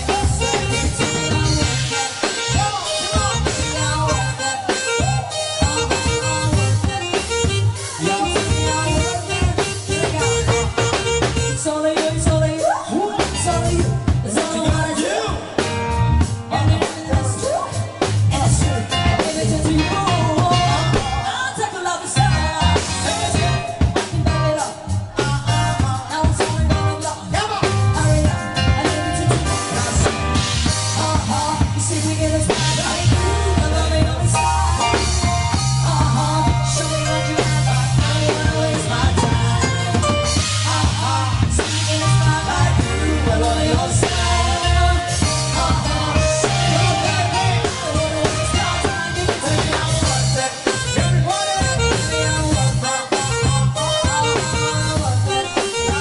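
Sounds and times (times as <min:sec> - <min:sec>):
live band playing dance music: 0:00.0 - 0:56.0
person singing: 0:00.0 - 0:56.0.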